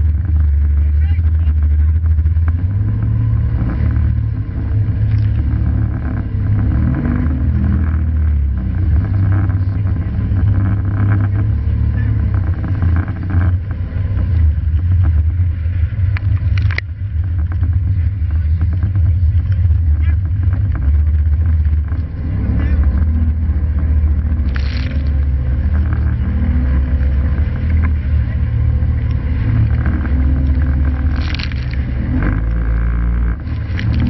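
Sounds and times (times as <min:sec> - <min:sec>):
waves slapping hull: 0:00.0 - 0:06.6, 0:11.4 - 0:34.0
boat engine rumble: 0:00.0 - 0:34.0
water crashing: 0:00.0 - 0:34.0.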